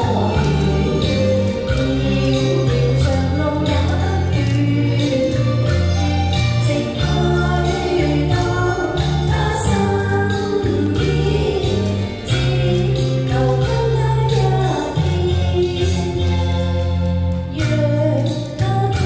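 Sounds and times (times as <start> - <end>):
woman singing into microphone: 0.0 - 16.8, 17.5 - 19.0
backing music with strong bass: 0.0 - 19.0.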